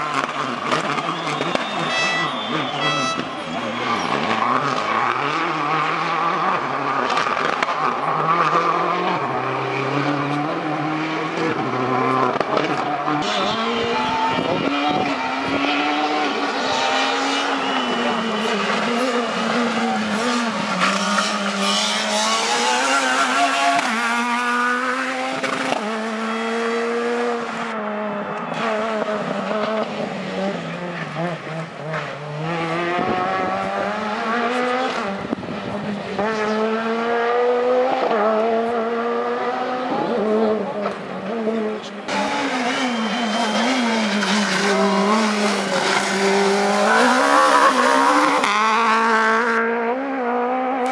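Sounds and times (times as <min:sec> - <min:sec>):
rally car engine at full throttle: 0:00.0 - 0:50.9.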